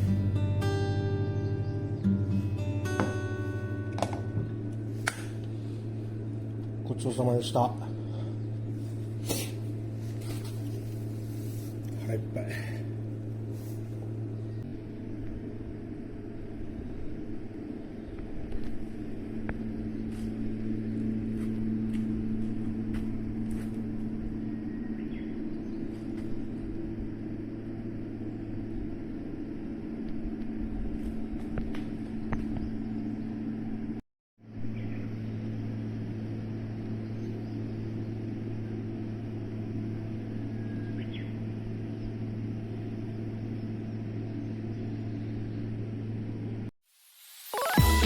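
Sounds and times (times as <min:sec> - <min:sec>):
low mechanical hum: 0:00.0 - 0:46.7.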